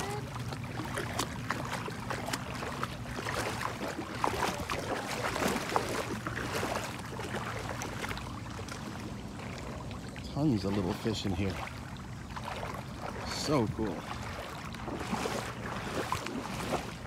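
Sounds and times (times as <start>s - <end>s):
feet wading through water: 0.0s - 17.0s.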